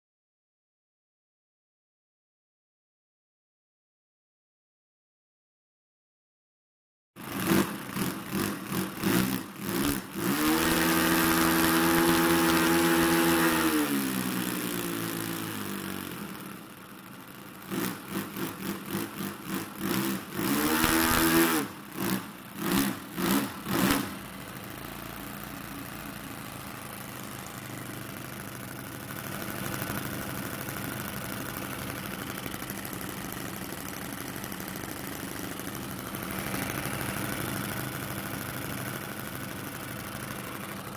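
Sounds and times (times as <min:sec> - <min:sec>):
model aircraft engines revving: 0:07.2 - 0:40.9.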